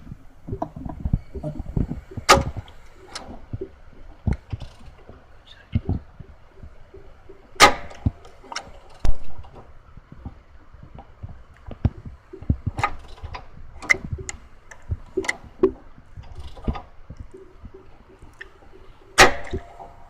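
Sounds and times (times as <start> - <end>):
engine clicks and knocks: 0.0 - 20.0.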